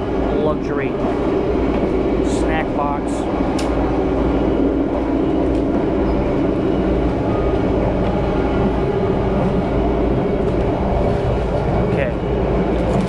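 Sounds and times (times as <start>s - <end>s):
moving train rumbling: 0.0s - 13.0s.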